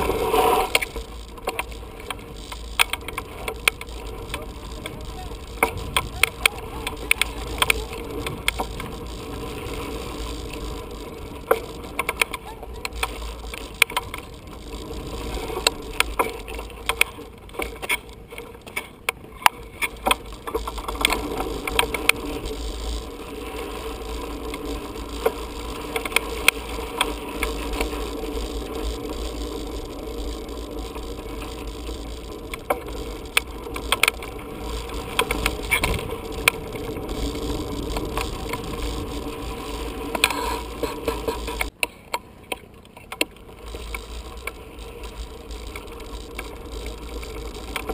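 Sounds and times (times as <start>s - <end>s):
wind rumble on microphone: 0.0s - 18.5s, 19.2s - 41.7s.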